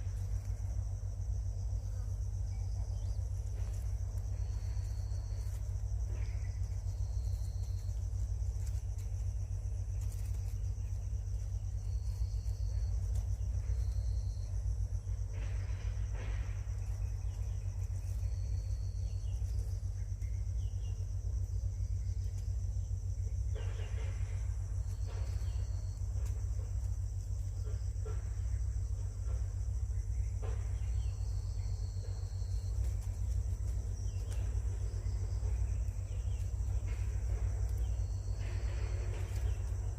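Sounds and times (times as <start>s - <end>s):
constant low rumble: 0.0s - 39.9s
crickets chirping: 0.0s - 39.9s
high insect chorus: 0.0s - 39.9s.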